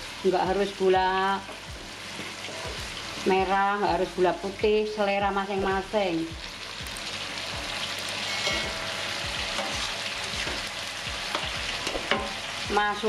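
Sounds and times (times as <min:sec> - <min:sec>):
spice paste sizzling in a wok: 0:00.0 - 0:13.0.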